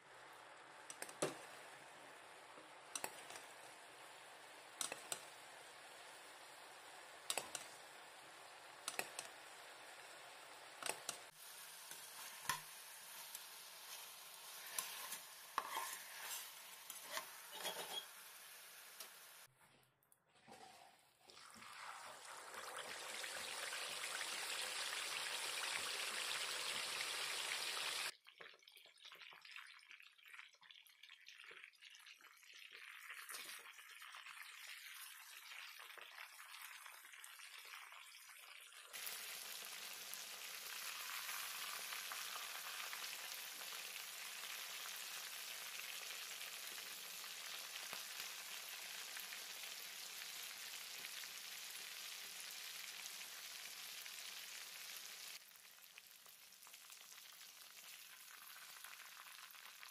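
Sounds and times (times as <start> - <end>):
chicken deep-frying in oil: 0.0 - 19.5, 20.5 - 59.9.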